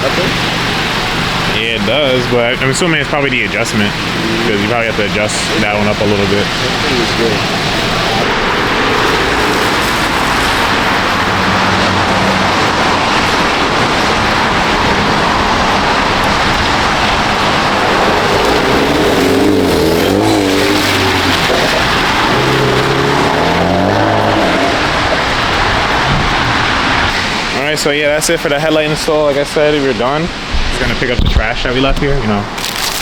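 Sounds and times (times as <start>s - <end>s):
car running: 0.0s - 33.0s.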